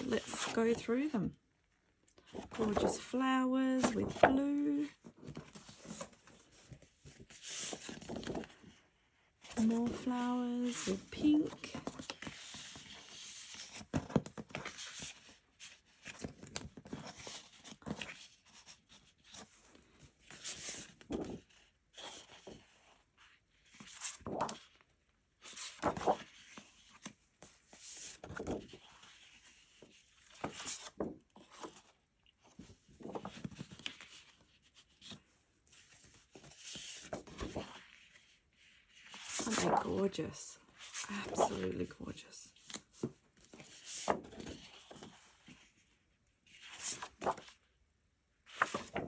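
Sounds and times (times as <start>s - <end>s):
paper sheets rustling and swishing: 0.0s - 1.1s, 2.2s - 8.8s, 9.5s - 24.8s, 25.4s - 45.9s, 46.5s - 47.6s, 48.4s - 49.0s.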